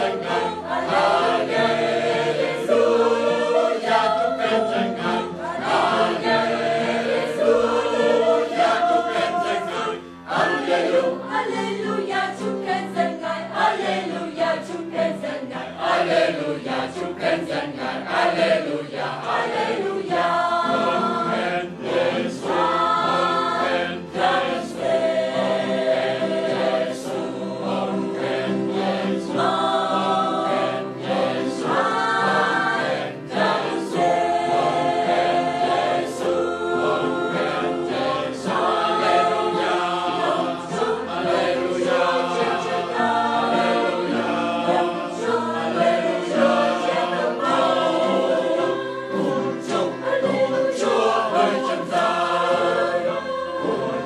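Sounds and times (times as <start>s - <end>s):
mixed choir singing held chords: 0.0s - 54.0s.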